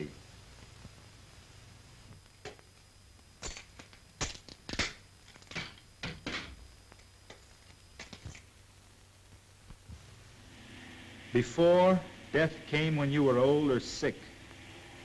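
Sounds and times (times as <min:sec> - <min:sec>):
film soundtrack hum and hiss: 0:00.0 - 0:15.0.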